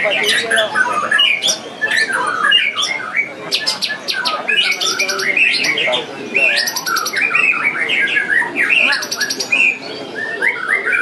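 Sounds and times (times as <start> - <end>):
birds singing whistled phrases: 0.0 - 11.0
high rattling bird trills: 0.0 - 11.0.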